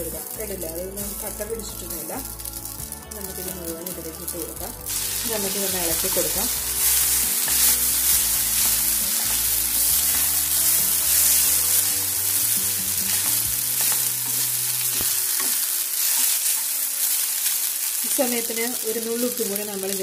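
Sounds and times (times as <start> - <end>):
noodles sizzling in a pan: 0.0 - 20.0
wooden spatula stirring: 1.1 - 17.6.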